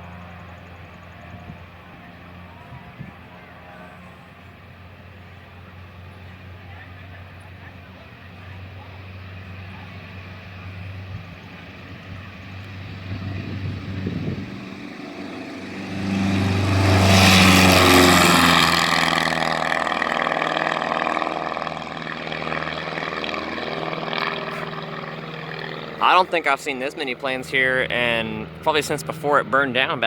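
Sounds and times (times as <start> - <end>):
propeller airplane engine passing: 0.0 - 30.0.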